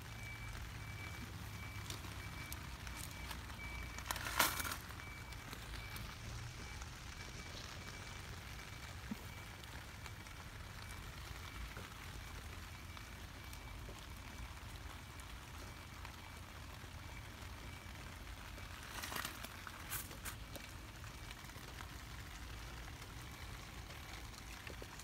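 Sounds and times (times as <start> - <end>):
leaves crackling and rustling: 0.0 - 16.5, 17.2 - 25.0.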